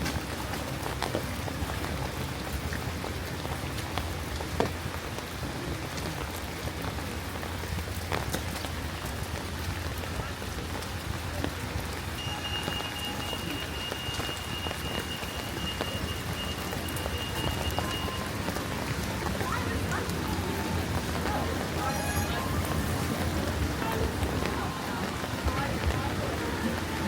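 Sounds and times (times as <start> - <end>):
raindrops ticking close by: 0.0 - 27.0
steady rain: 0.0 - 27.0.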